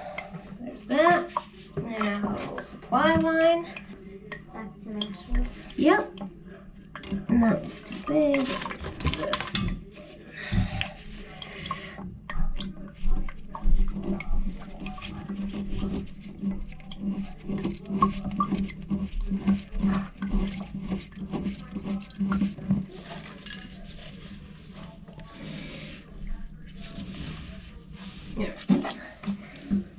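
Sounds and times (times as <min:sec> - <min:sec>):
plumbing parts clicking and rattling: 0:01.4 - 0:25.4.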